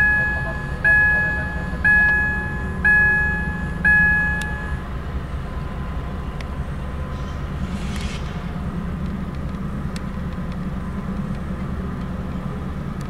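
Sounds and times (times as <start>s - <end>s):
freight train rumbling past: 1.4s - 12.5s.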